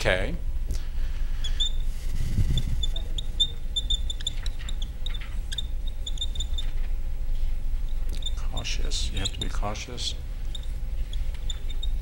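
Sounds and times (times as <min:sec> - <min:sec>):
steady low hum: 0:00.0 - 0:12.0
marker squeaking on whiteboard: 0:01.4 - 0:09.7, 0:10.4 - 0:12.0.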